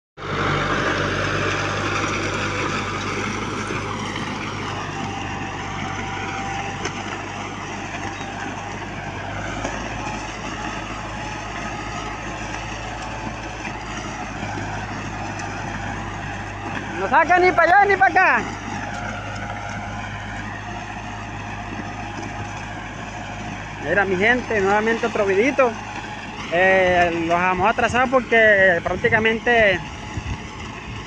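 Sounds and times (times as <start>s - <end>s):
tractor engine droning: 0.2s - 31.0s.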